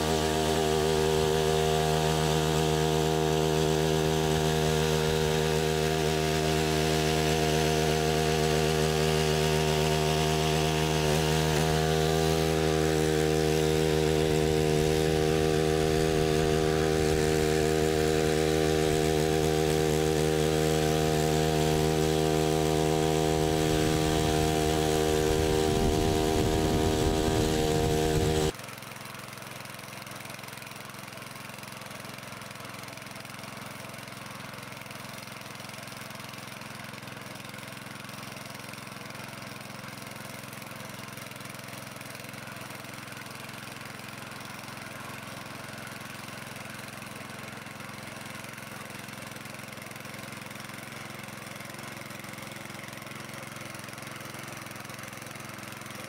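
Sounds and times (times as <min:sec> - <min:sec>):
tiller engine running: 0:00.0 - 0:56.0
tines churning soil: 0:00.0 - 0:56.0.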